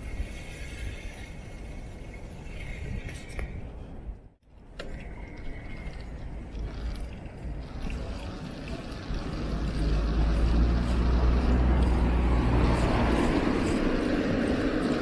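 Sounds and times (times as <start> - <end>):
bicycle tyre and road noise: 0.0 - 15.0
wind rumbling on microphone: 0.0 - 15.0.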